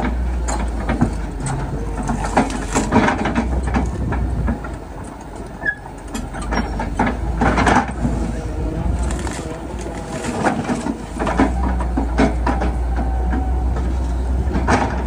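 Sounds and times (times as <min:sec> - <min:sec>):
heavy machinery engine rumbling: 0:00.0 - 0:15.0
metallic clanks and knocks: 0:00.0 - 0:15.0.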